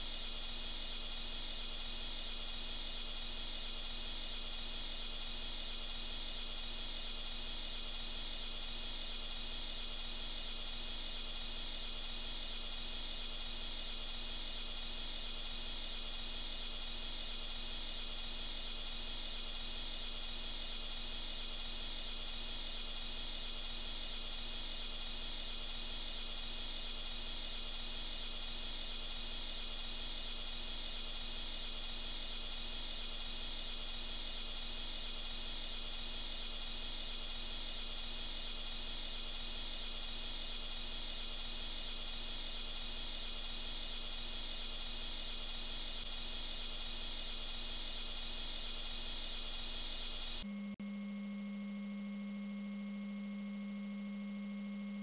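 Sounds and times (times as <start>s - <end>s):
welding arc hissing: 0.0s - 50.4s.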